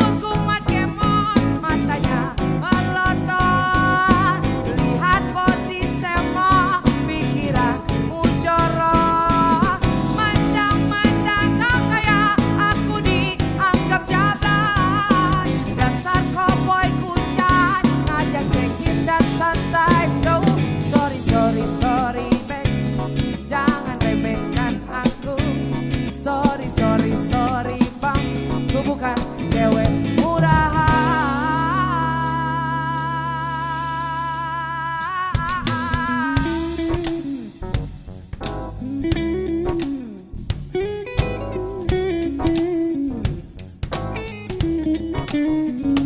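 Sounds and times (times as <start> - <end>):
woman singing: 0.0 - 37.4
band playing upbeat song: 0.0 - 46.0.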